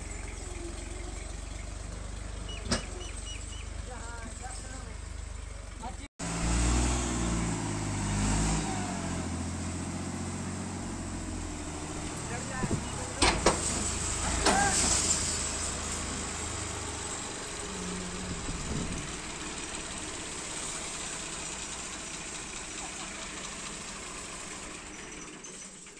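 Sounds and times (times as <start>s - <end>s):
tractor diesel engine idling: 0.0s - 6.6s, 8.6s - 25.9s.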